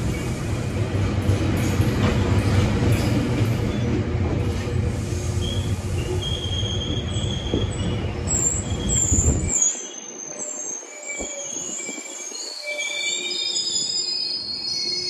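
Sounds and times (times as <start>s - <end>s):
train rumble: 0.0s - 13.9s
train wheels squealing: 0.0s - 15.0s.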